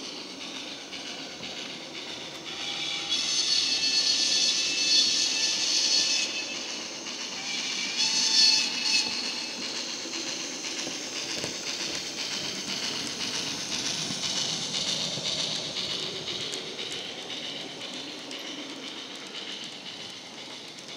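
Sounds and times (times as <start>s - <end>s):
model steam locomotive chuffs: 0.0s - 20.9s.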